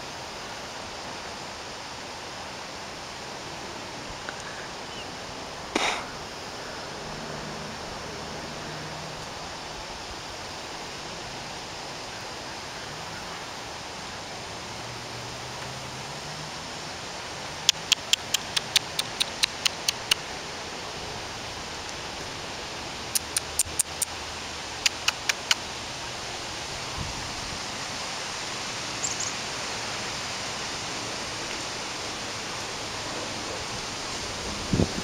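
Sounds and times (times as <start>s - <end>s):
steady outdoor hiss: 0.0s - 35.0s.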